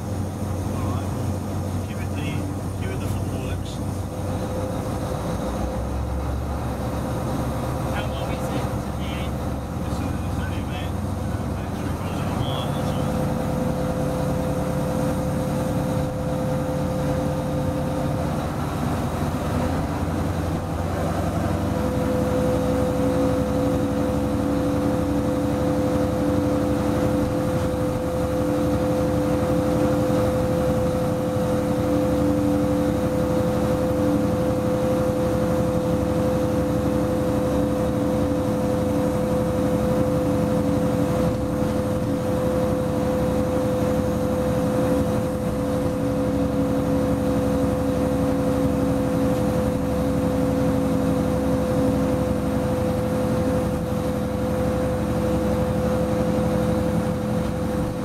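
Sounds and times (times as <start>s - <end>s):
diesel locomotive engine running: 0.0s - 58.0s
steady whine: 0.0s - 58.0s.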